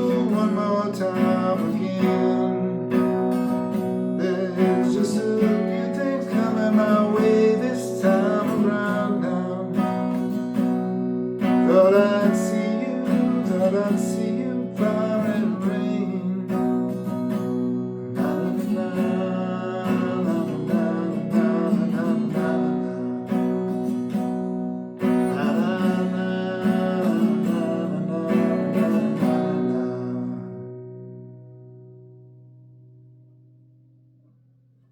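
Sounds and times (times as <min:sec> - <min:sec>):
acoustic guitar chords: 0:00.0 - 0:34.9.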